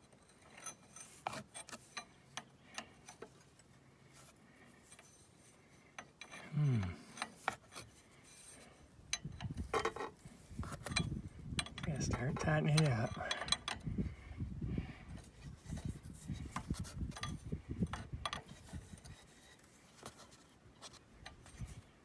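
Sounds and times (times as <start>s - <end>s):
metal fittings clicking and scraping: 0.0s - 14.2s, 15.1s - 21.9s.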